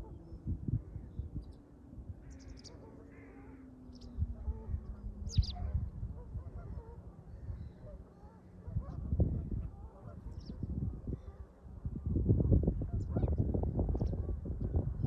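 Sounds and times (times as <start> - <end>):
faint low hum falling in pitch: 0.0 - 15.0
wind buffeting microphone: 0.0 - 15.0.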